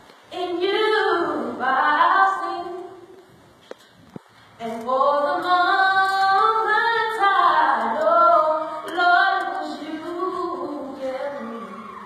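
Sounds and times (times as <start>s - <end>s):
women singing gospel song: 0.3s - 3.0s, 4.6s - 12.0s.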